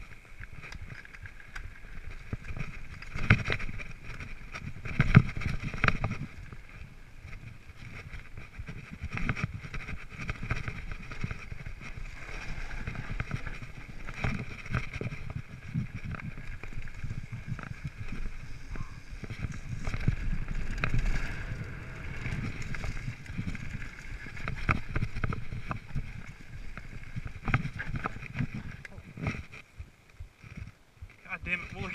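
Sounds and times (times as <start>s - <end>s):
bike knocking and rattling: 0.0s - 31.9s
tyres rolling over dirt: 0.5s - 29.6s
wind buffeting microphone: 2.2s - 31.2s.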